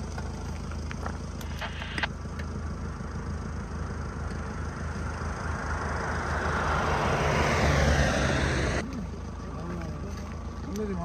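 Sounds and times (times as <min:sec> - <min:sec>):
car approaching: 0:00.0 - 0:11.0
steady low hum: 0:00.0 - 0:11.0.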